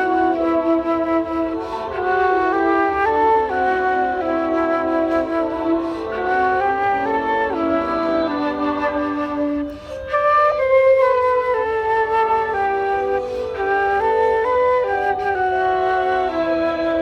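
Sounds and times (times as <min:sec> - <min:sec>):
lower accompanying line: 0:00.0 - 0:17.0
wind instrument melody: 0:00.0 - 0:17.0.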